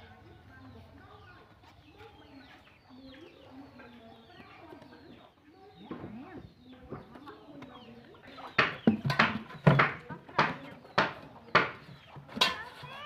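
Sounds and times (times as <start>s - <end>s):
faint chickens clucking: 0.0s - 13.0s
small birds chirping: 0.0s - 13.0s.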